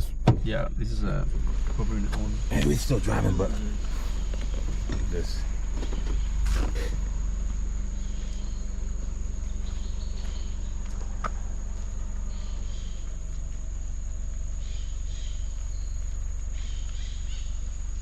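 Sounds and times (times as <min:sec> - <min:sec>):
car engine humming: 0:00.0 - 0:18.0
insects droning: 0:00.0 - 0:18.0.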